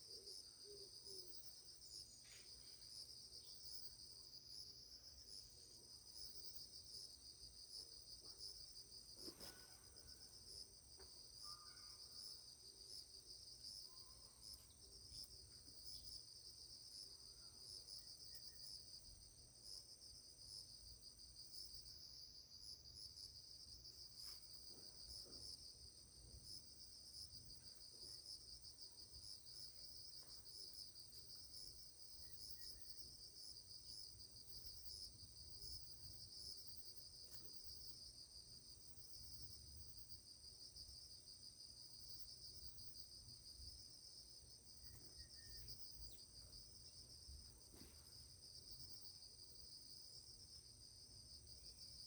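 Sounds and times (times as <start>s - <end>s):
insect chirring: 0.1s - 19.3s, 23.8s - 52.0s.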